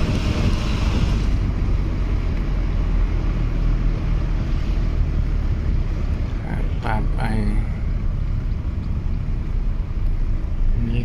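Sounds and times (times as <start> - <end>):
car road and wind noise: 0.0 - 11.0.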